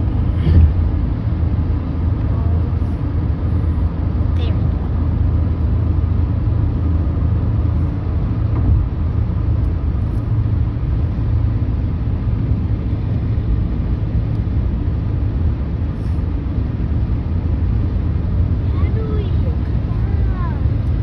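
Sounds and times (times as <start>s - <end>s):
car driving on highway: 0.0s - 21.0s.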